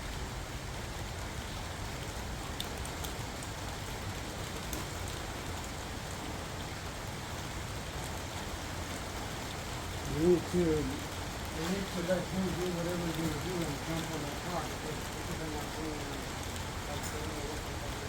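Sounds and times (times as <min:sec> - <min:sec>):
steady rain-like hiss: 0:00.0 - 0:18.0.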